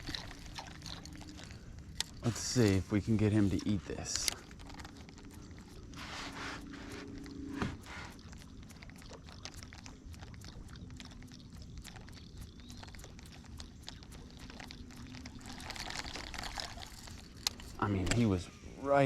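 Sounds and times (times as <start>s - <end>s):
lure and reel clicking: 0.0s - 7.2s, 7.8s - 18.3s
water splashing: 0.0s - 18.2s.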